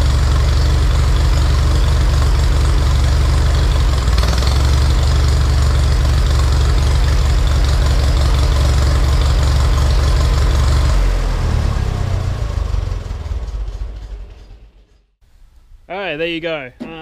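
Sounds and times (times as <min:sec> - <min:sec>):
tractor engine running: 0:00.0 - 0:15.2.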